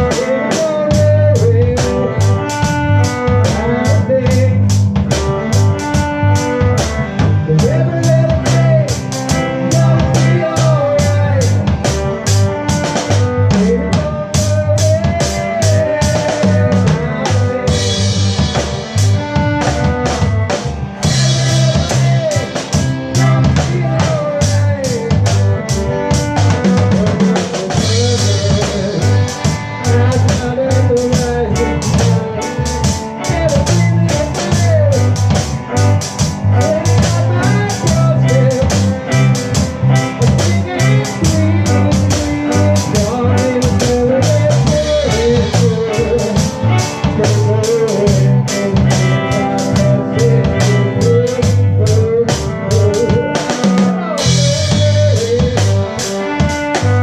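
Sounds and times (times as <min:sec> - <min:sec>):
bass line: 0:00.0 - 0:57.0
pitch-bending lead melody: 0:00.0 - 0:57.0.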